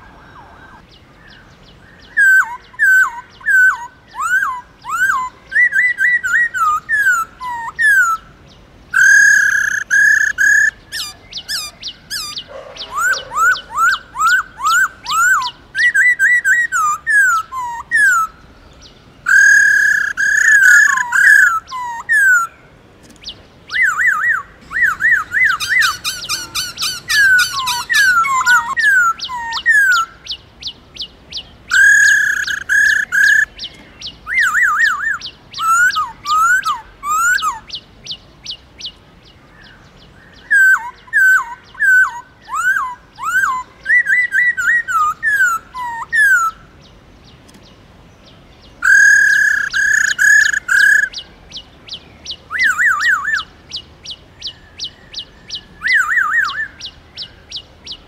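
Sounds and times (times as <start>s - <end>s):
bird singing whistled notes: 0.3s - 22.6s, 23.2s - 58.0s.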